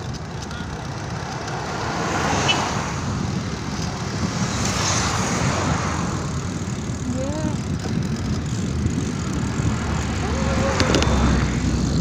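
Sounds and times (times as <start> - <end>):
car road noise: 0.0 - 12.0
wind rushing over microphone: 1.6 - 12.0.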